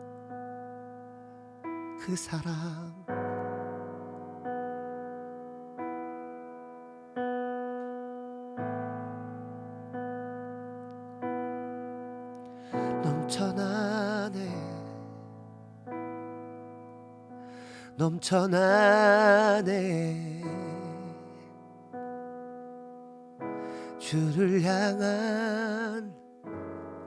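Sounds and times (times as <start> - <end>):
keyboard playing slow chords: 0.0 - 27.0.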